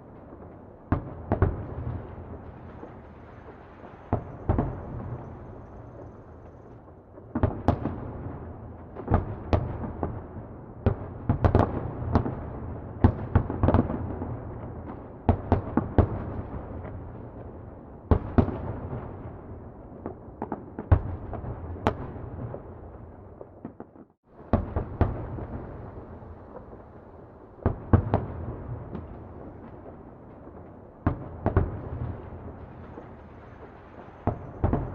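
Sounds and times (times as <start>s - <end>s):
distant fireworks exploding: 0.0s - 34.9s.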